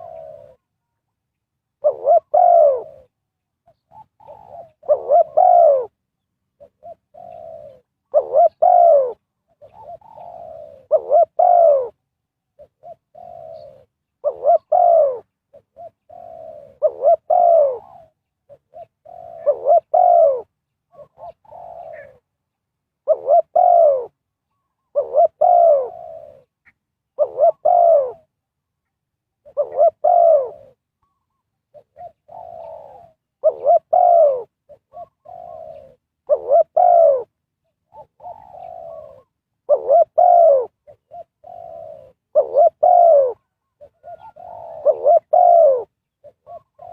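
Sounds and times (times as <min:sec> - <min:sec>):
dove cooing: 0:00.0 - 0:22.4, 0:23.0 - 0:28.5, 0:29.3 - 0:46.9.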